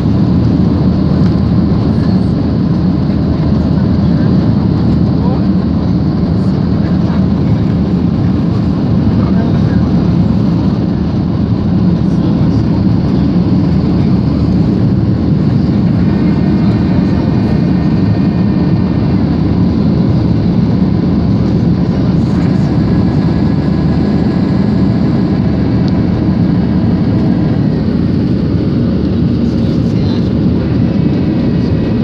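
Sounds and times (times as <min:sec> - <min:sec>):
jet cabin engine drone: 0:00.0 - 0:32.0.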